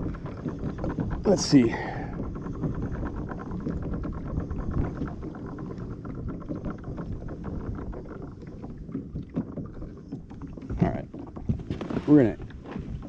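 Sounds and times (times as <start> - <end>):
water around kayak: 0.0 - 13.0
wind: 0.0 - 13.0.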